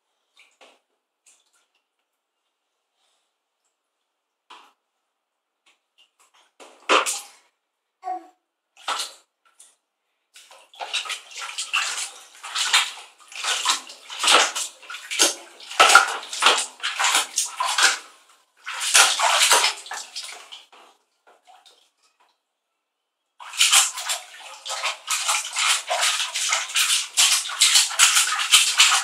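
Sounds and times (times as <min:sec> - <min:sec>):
water splashing in a bathtub: 0:00.1 - 0:02.6, 0:05.6 - 0:22.5, 0:23.4 - 0:29.0.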